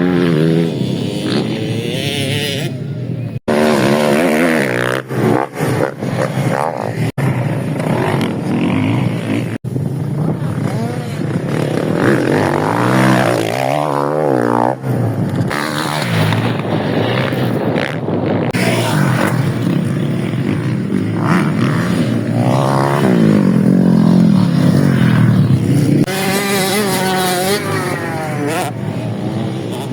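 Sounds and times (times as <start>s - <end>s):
motocross motorcycle engines revving: 0.0s - 29.9s.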